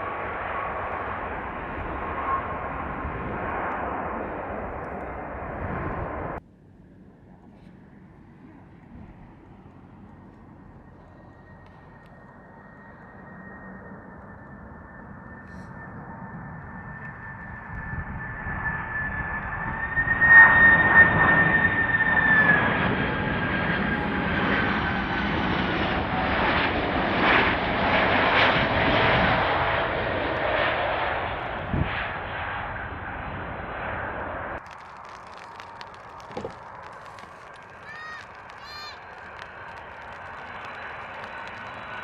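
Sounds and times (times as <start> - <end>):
jet airliner passing: 0.0 - 42.0.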